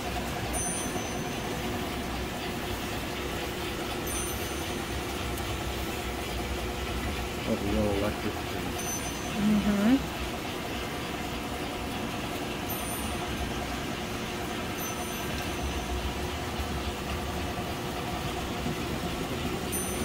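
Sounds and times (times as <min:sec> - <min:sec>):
electric model trains humming: 0:00.0 - 0:20.0.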